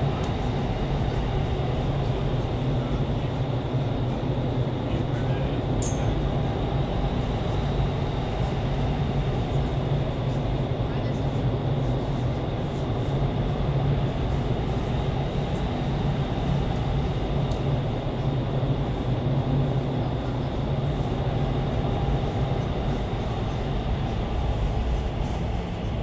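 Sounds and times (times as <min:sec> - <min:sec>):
rushing air and fan noise: 0:00.0 - 0:26.0.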